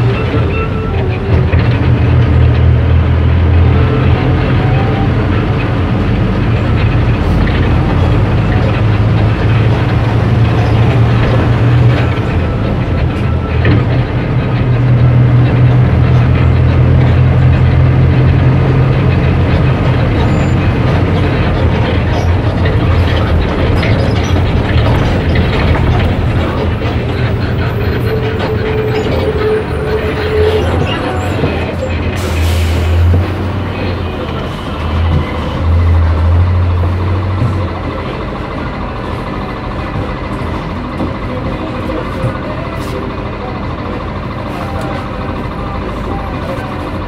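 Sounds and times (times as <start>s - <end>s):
bus engine drone: 0.0s - 47.0s
road rumble: 0.0s - 47.0s.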